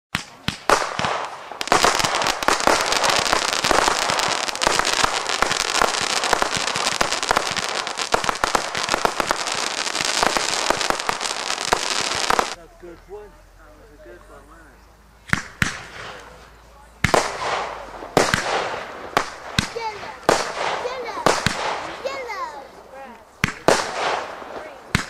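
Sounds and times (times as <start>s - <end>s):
firework bangs: 0.1s - 12.6s, 15.2s - 16.4s, 17.0s - 22.8s, 23.4s - 25.0s
firework crackling and popping: 0.1s - 12.6s, 15.3s - 16.4s, 17.0s - 25.0s.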